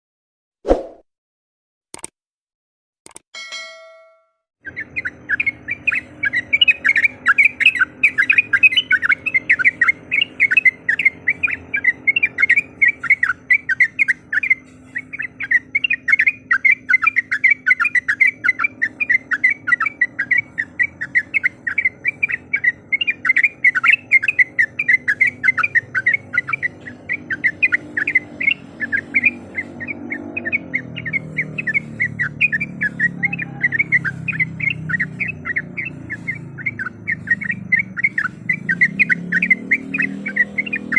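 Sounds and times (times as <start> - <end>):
bird singing bubbling chattering notes: 4.6 - 40.9.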